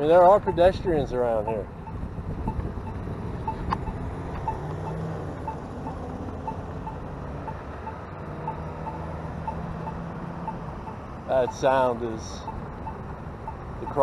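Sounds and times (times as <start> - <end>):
low engine hum: 0.0 - 14.0
pedestrian signal beeping: 0.0 - 14.0
road traffic: 0.0 - 14.0.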